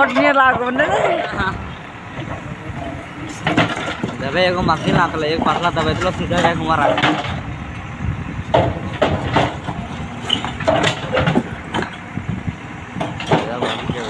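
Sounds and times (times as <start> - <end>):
sharp knocks and clanks: 0.0 - 7.5, 8.4 - 14.0
diesel engine droning: 0.0 - 14.0.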